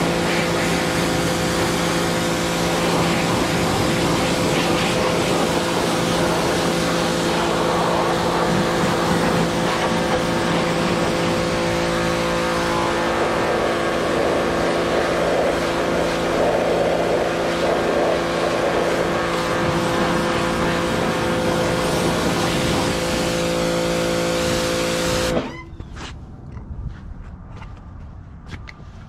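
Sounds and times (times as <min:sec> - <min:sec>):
water jet spraying: 0:00.0 - 0:25.4
pressure washer machine hum: 0:00.0 - 0:25.5.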